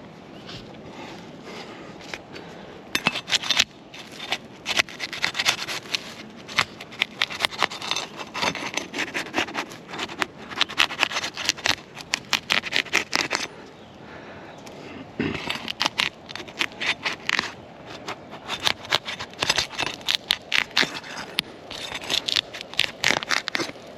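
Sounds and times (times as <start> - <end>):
tools scraping roof shingles: 3.0 - 13.5, 15.2 - 23.8.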